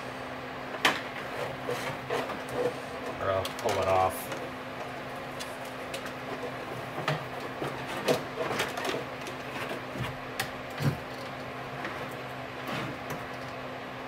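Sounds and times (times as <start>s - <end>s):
steady low hum: 0.0s - 14.0s
wiring clicking and rustling: 0.8s - 13.6s.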